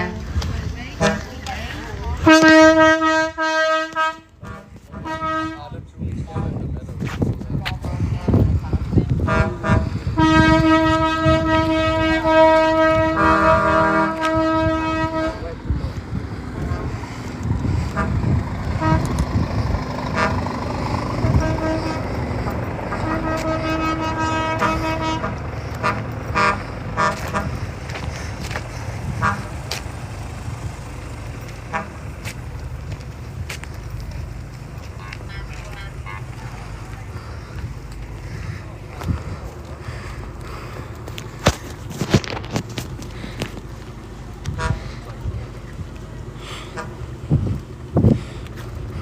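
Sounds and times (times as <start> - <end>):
truck air horns blowing: 0.0 - 1.5, 2.1 - 6.6, 9.2 - 30.9, 31.5 - 32.6, 34.8 - 42.6, 44.4 - 45.2, 46.4 - 49.0
low rumble: 4.2 - 49.0.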